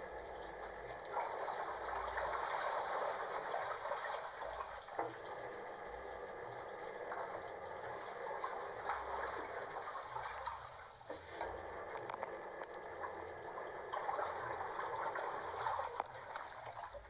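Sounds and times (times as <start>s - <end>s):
water gushing into washing machine: 0.0s - 17.0s.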